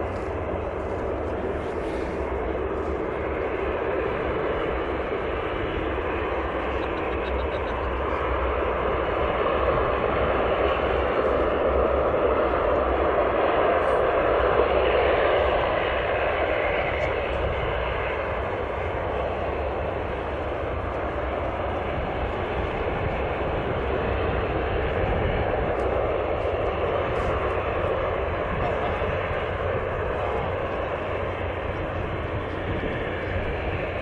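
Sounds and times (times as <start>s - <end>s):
propeller aircraft passing: 0.0s - 34.0s.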